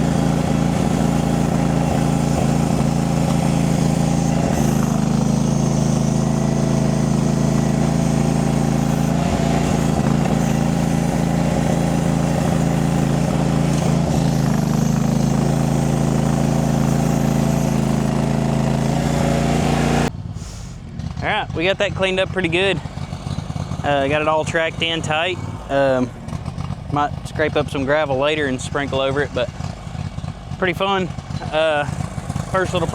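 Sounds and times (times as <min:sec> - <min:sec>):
skid steer engine running: 0:00.0 - 0:32.9.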